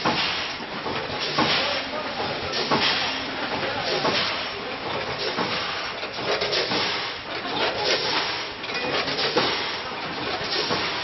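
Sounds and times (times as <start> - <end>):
machine clacks and knocks: 0.0 - 11.0
packing machinery running: 0.0 - 11.0.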